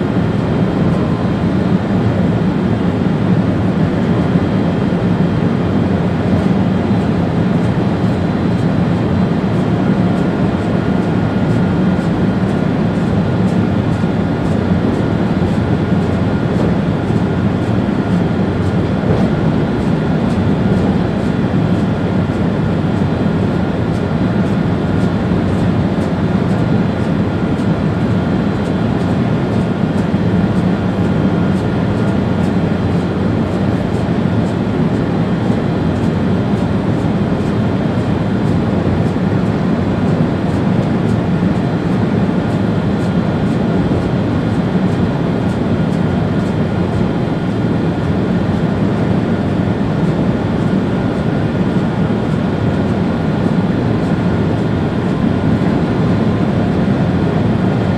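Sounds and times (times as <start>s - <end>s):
faint steady whine: 0.0s - 57.9s
train running noise: 0.0s - 57.9s.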